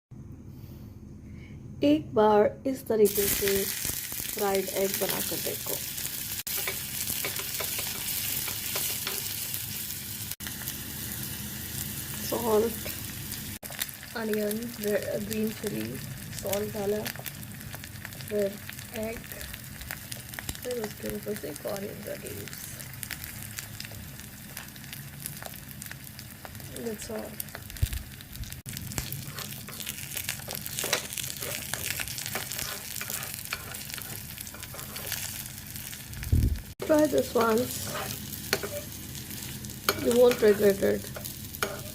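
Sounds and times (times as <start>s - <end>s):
food sizzling in hot oil: 3.0s - 41.9s.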